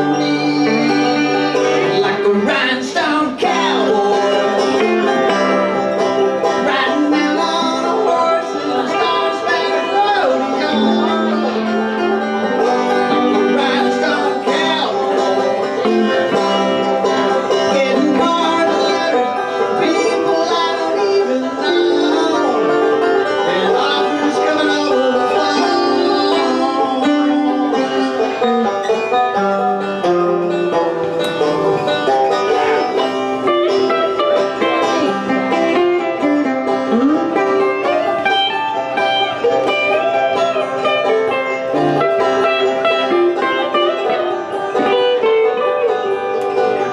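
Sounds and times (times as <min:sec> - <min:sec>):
banjo picking: 0:00.0 - 0:46.9
electric guitar: 0:00.0 - 0:46.9.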